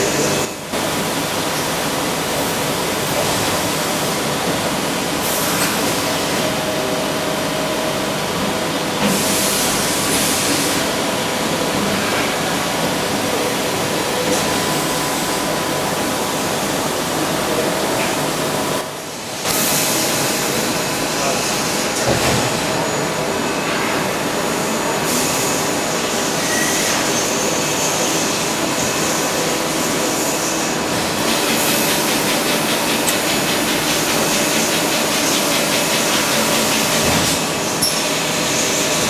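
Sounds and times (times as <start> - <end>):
hissing machine noise: 0.0 - 39.0.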